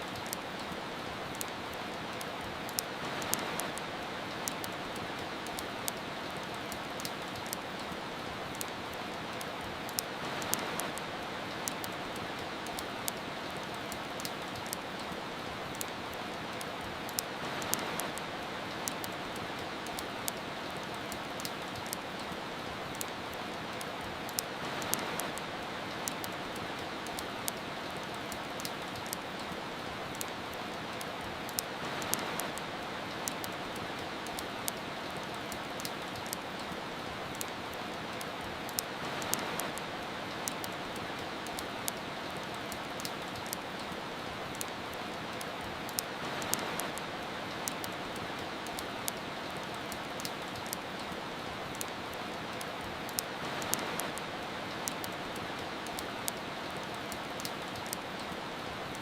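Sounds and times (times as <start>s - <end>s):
steady rain hiss: 0.0s - 59.0s
wood fire crackling and popping: 0.0s - 59.0s.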